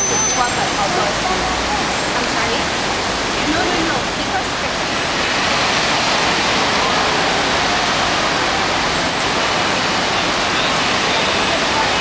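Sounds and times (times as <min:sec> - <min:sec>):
road traffic rushing: 0:00.0 - 0:12.0.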